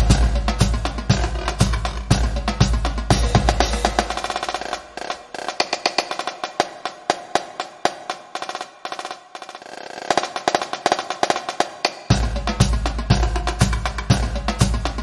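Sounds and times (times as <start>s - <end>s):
marching snare drum: 0.0s - 15.0s.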